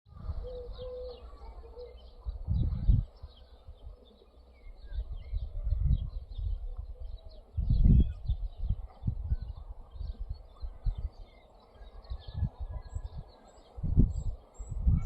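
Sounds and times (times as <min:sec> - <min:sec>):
wind buffeting microphone: 0:00.1 - 0:01.4, 0:02.0 - 0:15.0
small birds chirping: 0:00.1 - 0:15.0.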